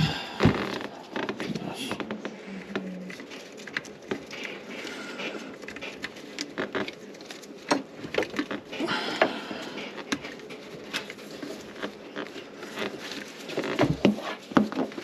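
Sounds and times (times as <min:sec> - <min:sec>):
rustling of hands with wiring: 0:00.0 - 0:15.0.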